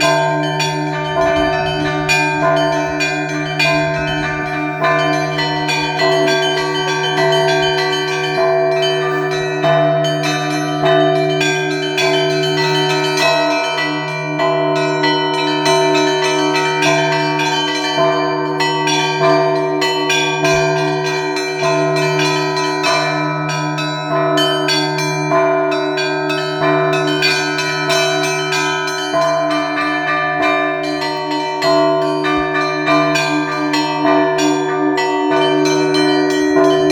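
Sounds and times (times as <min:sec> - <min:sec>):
church bells pealing: 0:00.0 - 0:36.9
low hum of large bell: 0:00.0 - 0:36.9.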